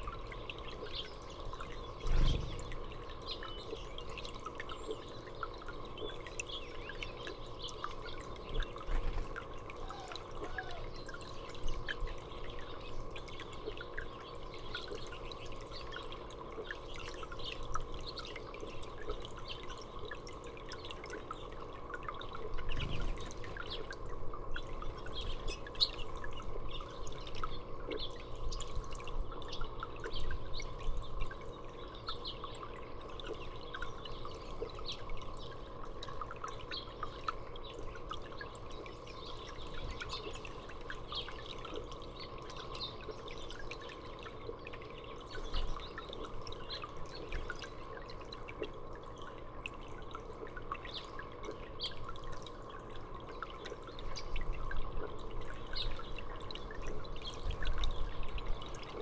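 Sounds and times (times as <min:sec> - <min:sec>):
water dripping into birdbath: 0:00.0 - 0:59.0.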